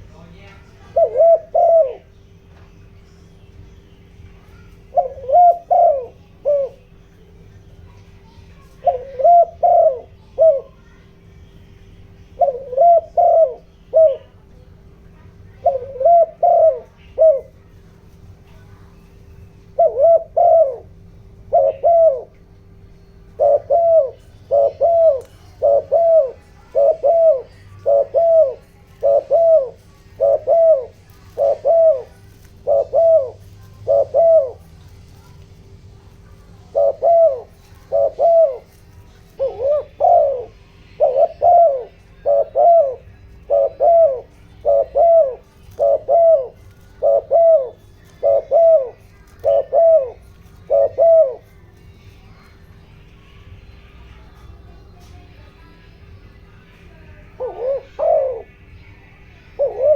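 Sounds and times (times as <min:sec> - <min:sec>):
dove cooing: 0:00.0 - 0:02.3, 0:04.3 - 0:11.1, 0:12.0 - 0:55.4, 0:56.9 - 0:59.9
faint steady hum: 0:00.0 - 0:59.9.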